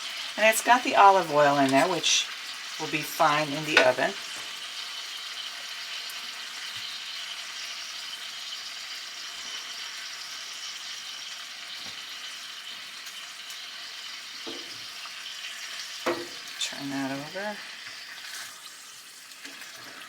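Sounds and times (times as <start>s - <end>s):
chicken sizzling in a skillet: 0.0s - 20.0s.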